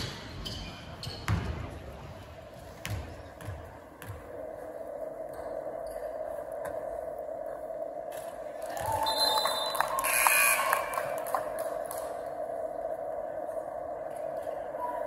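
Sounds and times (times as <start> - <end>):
steady gym hum: 1.8 - 15.0.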